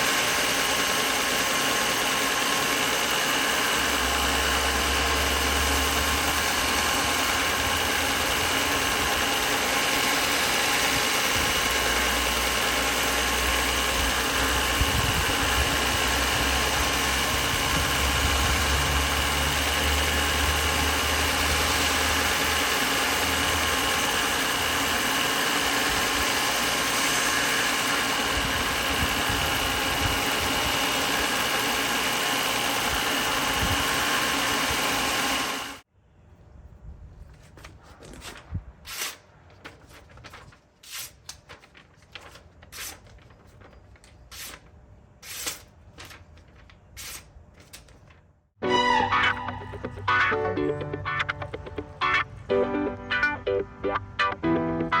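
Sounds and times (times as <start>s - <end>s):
workshop machine whining: 0.0s - 35.9s, 37.2s - 55.0s.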